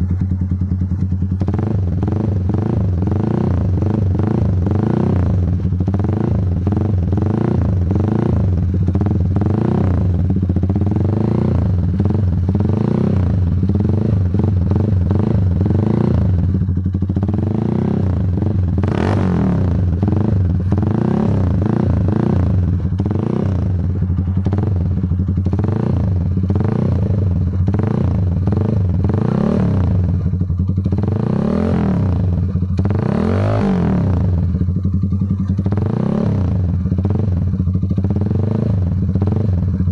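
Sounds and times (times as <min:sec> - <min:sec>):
motorcycle engine idling: 0:00.0 - 0:39.9
motorcycle throttle blips: 0:00.0 - 0:39.9.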